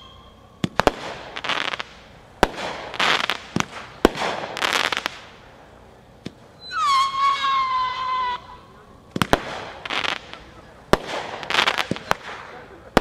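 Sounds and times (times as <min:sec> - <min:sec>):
firework crackling: 0:00.0 - 0:13.0
firework reports: 0:00.0 - 0:13.0.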